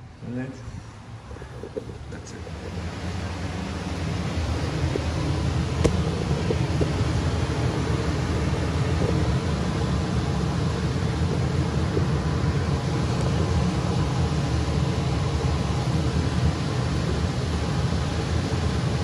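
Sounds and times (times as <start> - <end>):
furnace blower rumble: 0.0 - 19.0.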